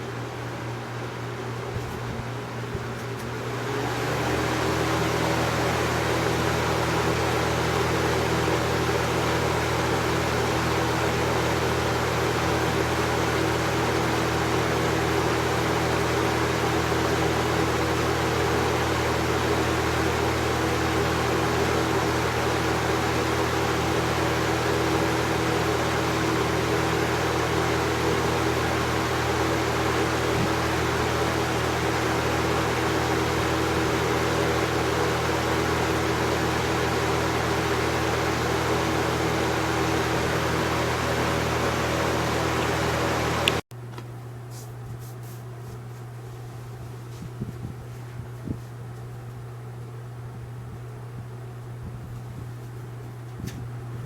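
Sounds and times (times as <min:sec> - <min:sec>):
box fan running: 0:00.0 - 0:54.0.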